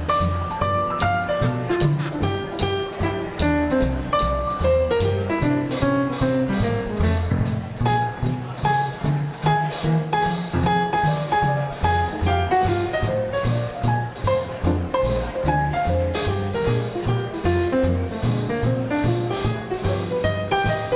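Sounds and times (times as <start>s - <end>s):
double bass: 0.0s - 20.9s
drum kit swing beat: 0.0s - 20.9s
piano: 0.0s - 20.9s.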